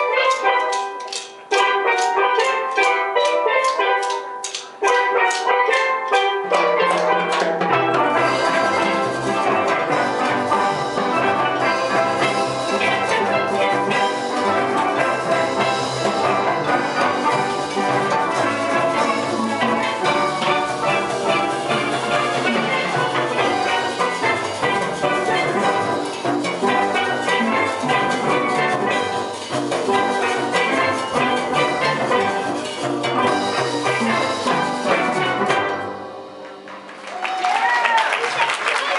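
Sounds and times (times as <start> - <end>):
steel drum band playing: 0.0 - 38.9.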